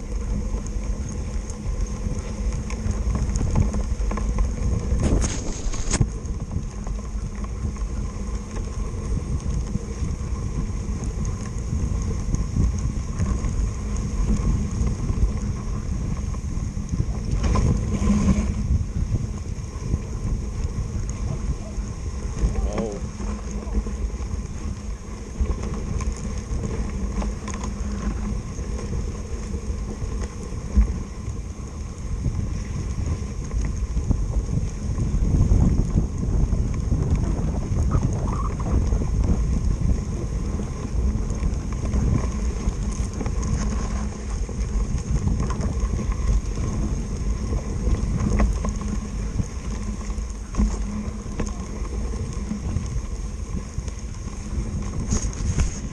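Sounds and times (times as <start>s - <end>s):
dog sled rumbling: 0.0s - 55.9s
wind buffeting microphone: 0.0s - 55.9s.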